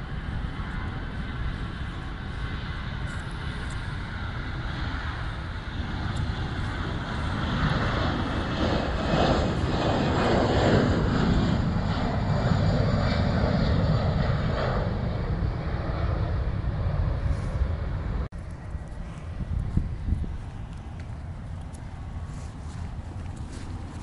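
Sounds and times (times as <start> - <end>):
airliner engines taking off: 0.0 - 24.0.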